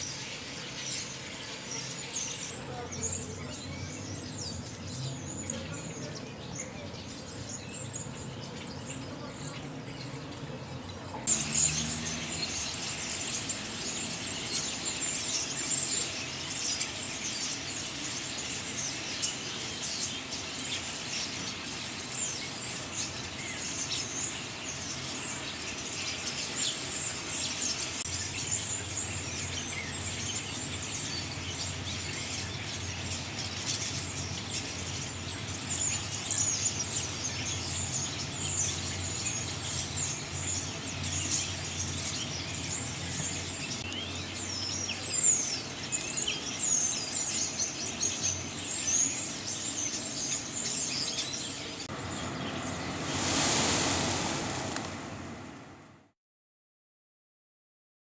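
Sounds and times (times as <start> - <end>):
starlings chattering: 0.0 - 55.9.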